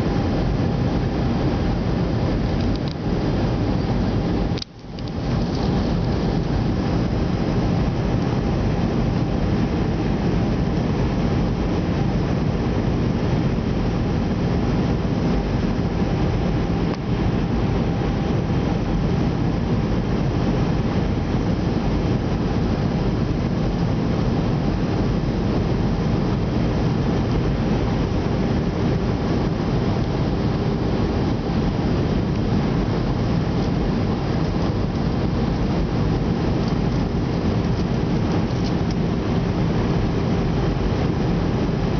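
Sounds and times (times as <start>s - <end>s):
airliner cabin engine and airflow rush: 0.0s - 41.9s
faint steady hums: 0.0s - 41.9s.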